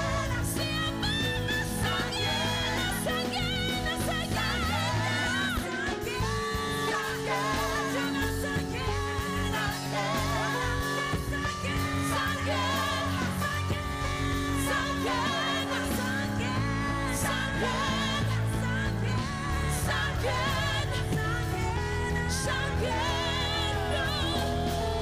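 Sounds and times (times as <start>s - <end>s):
live band with bass guitar: 0.0s - 25.0s
woman singing with vibrato: 0.0s - 25.0s.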